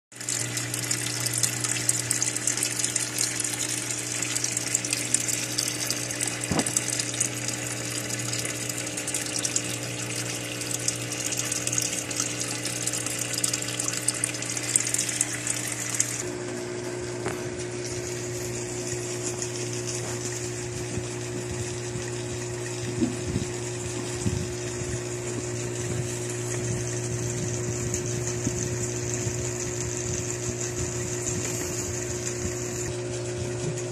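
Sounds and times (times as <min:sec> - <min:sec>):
aquarium filter bubbling: 0:00.1 - 0:33.9
electric air pump hum: 0:00.1 - 0:33.9.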